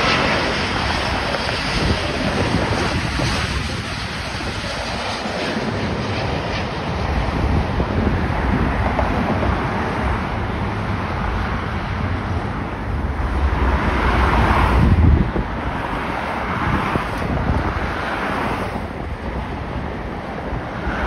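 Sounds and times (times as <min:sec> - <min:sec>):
jet airliner engine noise: 0:00.0 - 0:21.0
wind buffeting microphone: 0:00.0 - 0:21.0.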